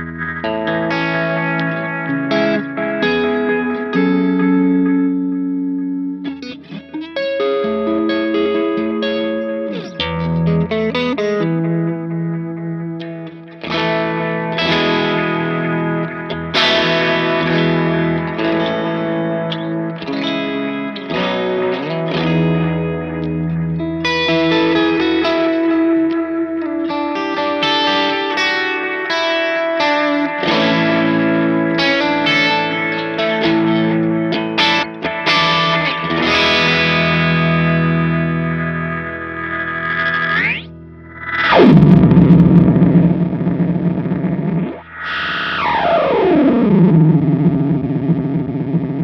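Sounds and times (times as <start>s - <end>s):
electric guitar with delay: 0.0s - 49.0s.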